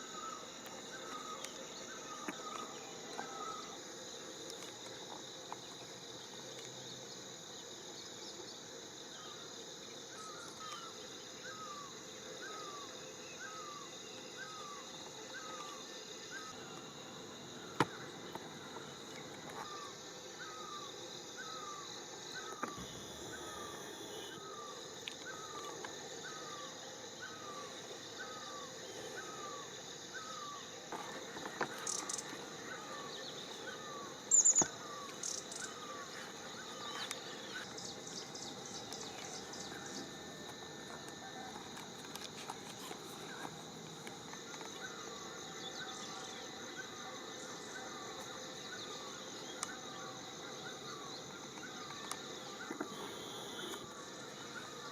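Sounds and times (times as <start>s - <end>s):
higher insect chirps: 0.0s - 54.9s
insect high drone: 0.0s - 54.9s.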